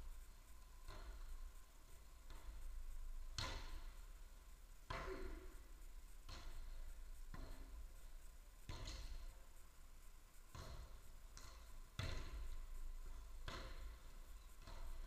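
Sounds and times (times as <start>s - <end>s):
football thuds echoing in hall: 0.0s - 15.0s.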